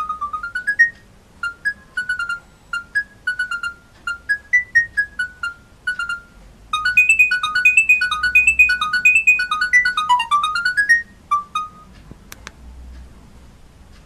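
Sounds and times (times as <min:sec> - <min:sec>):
electronic ringtone beeping melody: 0:00.0 - 0:12.0.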